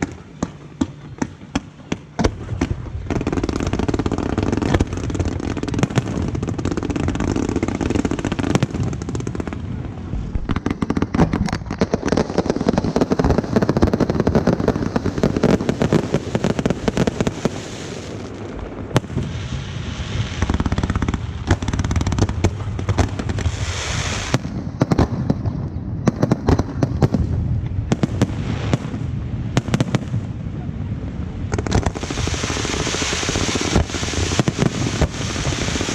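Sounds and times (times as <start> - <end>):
hissing crackle: 0.0 - 24.6, 31.4 - 35.9
fireworks bangs and crackling: 0.0 - 35.9.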